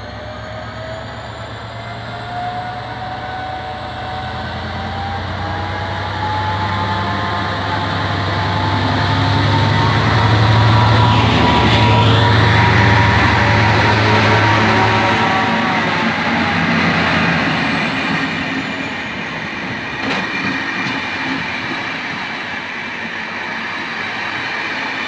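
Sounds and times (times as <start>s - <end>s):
diesel locomotive engine drone: 0.0s - 25.0s.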